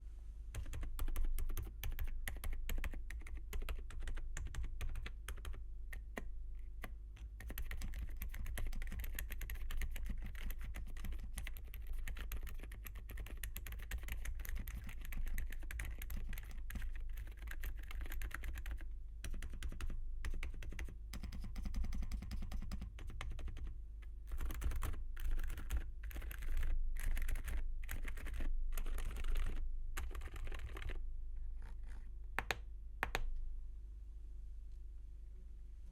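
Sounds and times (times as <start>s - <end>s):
soft mechanical keyboard typing: 0.5s - 33.3s.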